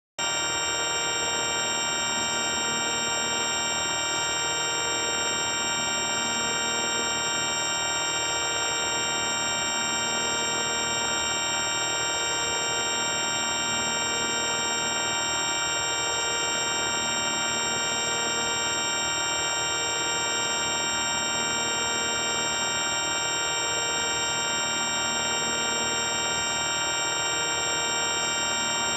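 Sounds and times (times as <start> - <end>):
electronic drone of held tones: 0.2 - 28.9.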